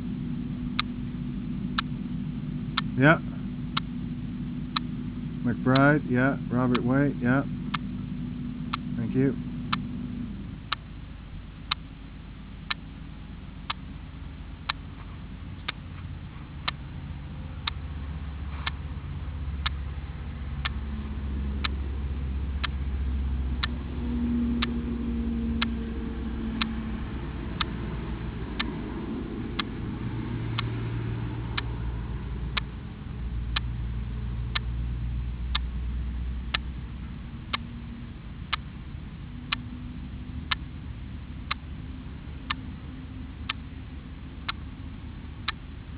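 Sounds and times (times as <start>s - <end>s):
low rumble: 0.0s - 45.9s
sharp ticking: 0.0s - 45.9s.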